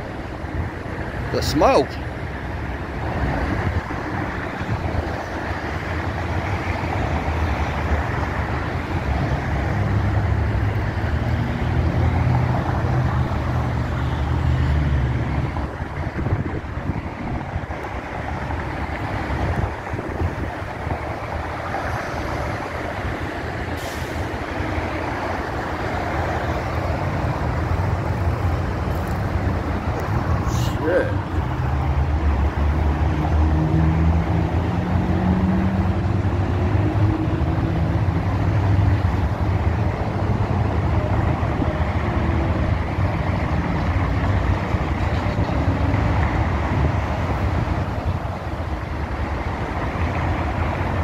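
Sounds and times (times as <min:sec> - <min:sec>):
freeway traffic noise: 0:00.0 - 0:51.0.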